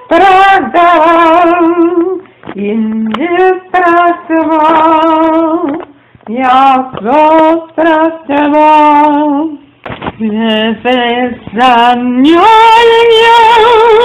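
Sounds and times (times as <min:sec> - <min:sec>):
woman singing with vibrato: 0:00.0 - 0:14.0.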